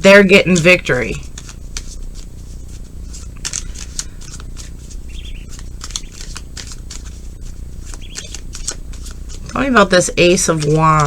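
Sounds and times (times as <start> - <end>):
low steady hum: 0.0 - 11.0
cards shuffling and flicking: 0.2 - 11.0.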